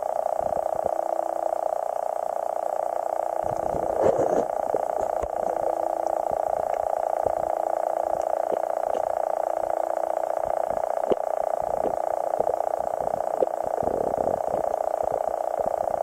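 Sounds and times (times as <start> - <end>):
fast-pulsing buzz: 0.0 - 16.0.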